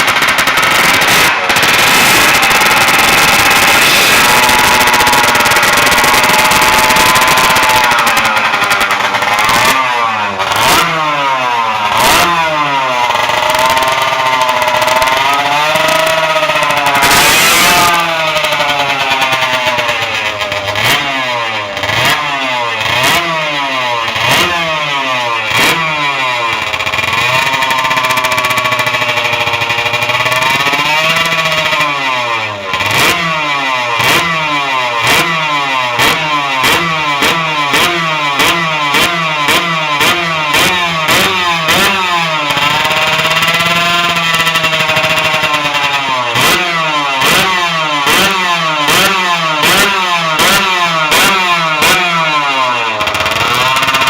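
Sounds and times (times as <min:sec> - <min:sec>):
engine crackles: 0:00.0 - 0:54.0
motorcycle engine revving: 0:00.0 - 0:54.0.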